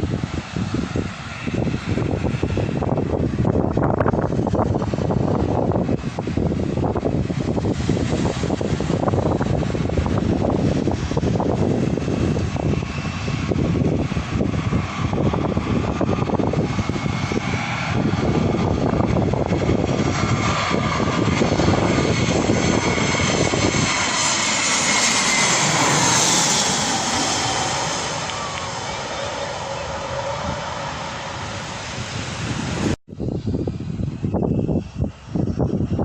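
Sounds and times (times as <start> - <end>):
jet airliner passing overhead: 0.0 - 36.0
wind buffeting microphone: 0.0 - 36.0.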